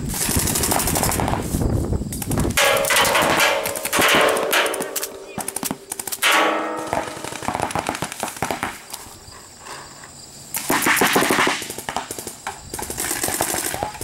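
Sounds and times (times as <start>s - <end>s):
paintball guns firing rapidly: 0.0s - 1.6s, 2.2s - 8.9s, 10.6s - 14.0s.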